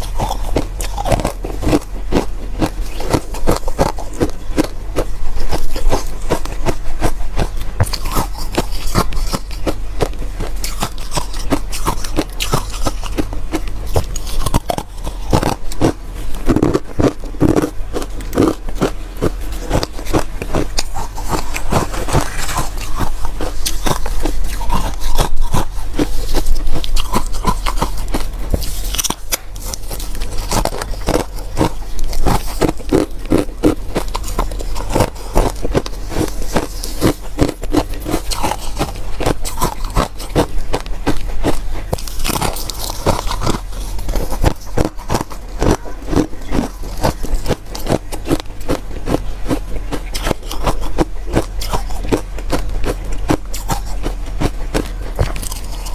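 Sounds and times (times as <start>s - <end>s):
crunching ice: 0.0s - 55.9s
steady low hum: 0.0s - 55.9s.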